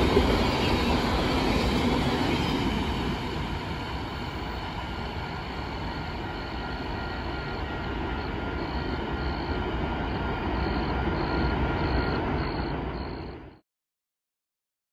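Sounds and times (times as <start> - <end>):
train wheels rumbling on rail: 0.0 - 13.2.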